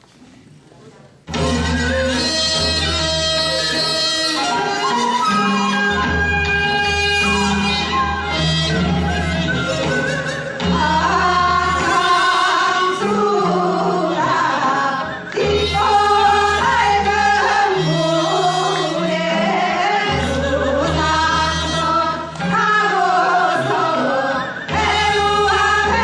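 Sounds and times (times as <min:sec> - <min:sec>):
bass accompaniment: 0:01.3 - 0:13.6, 0:15.4 - 0:26.0.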